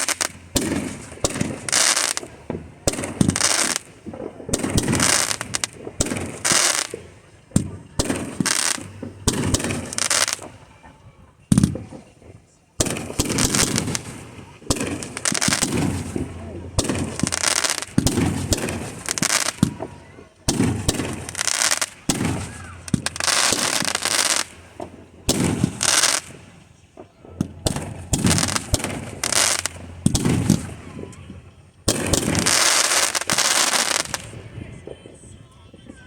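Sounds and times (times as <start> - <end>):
firework sizzling crackle: 0.0 - 10.9, 11.5 - 36.0
firework bangs: 0.0 - 36.0.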